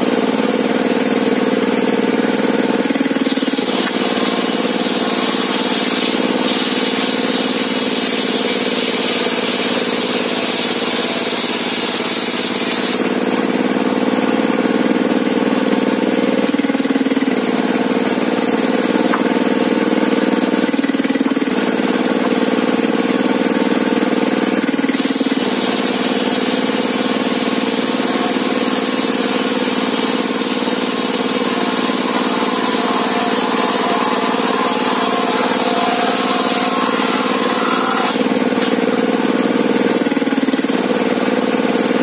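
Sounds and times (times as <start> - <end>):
sawmill engine running: 0.0 - 42.0.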